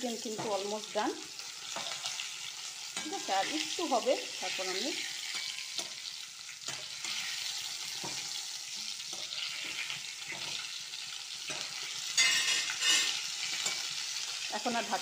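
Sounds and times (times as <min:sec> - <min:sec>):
chicken sizzling in hot oil: 0:00.0 - 0:15.0
spatula scraping and knocking pan: 0:01.5 - 0:14.1.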